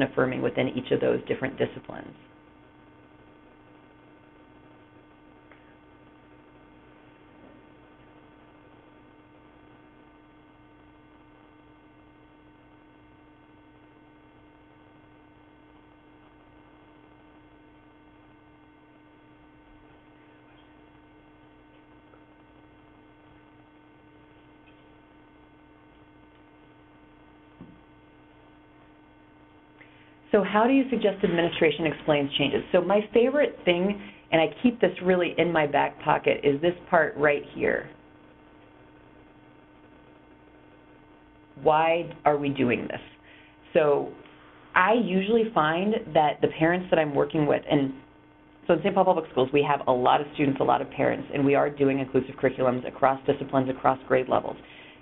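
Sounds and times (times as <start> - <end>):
faint electrical hum and hiss: 0.0 - 55.0.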